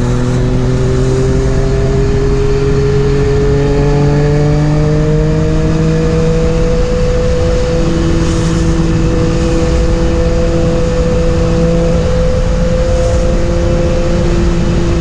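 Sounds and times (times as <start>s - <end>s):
motorcycle engine running: 0.0s - 15.0s
steady rushing noise: 0.0s - 15.0s.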